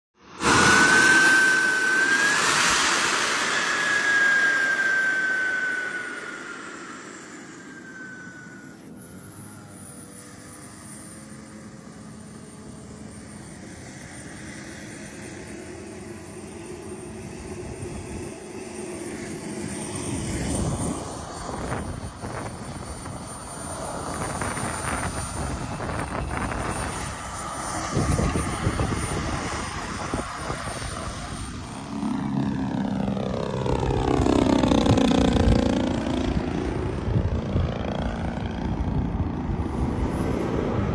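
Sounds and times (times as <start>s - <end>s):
aircraft flying by: 0.2s - 40.9s.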